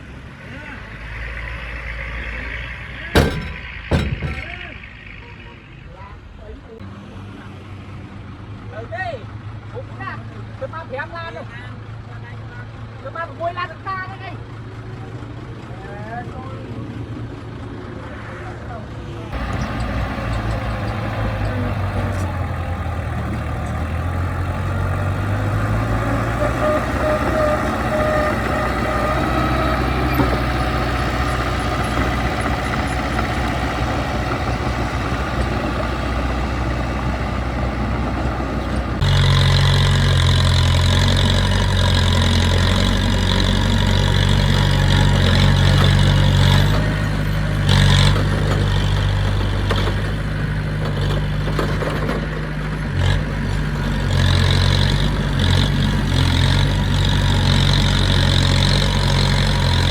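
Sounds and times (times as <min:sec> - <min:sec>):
diesel engine running: 0:01.8 - 0:05.8, 0:14.4 - 0:59.9.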